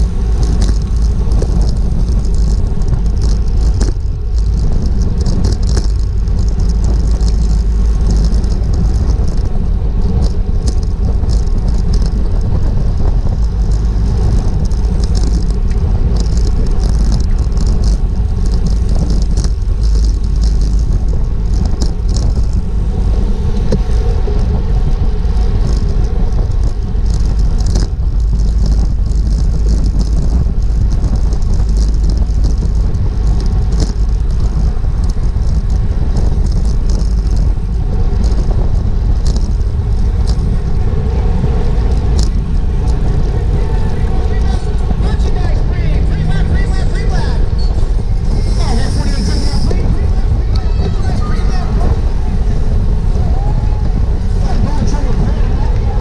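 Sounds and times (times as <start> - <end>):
bicycle clicks and rattles: 0.0 - 56.0
wind rumbling on microphone: 0.0 - 56.0.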